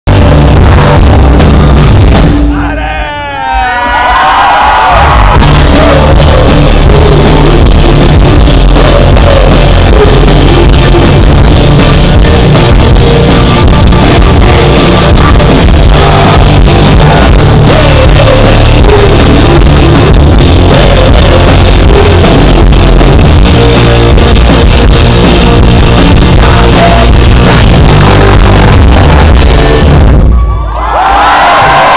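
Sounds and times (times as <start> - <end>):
distorted live rock band: 0.1 - 31.9
drum kit: 0.1 - 31.9
electric guitars: 3.7 - 30.2.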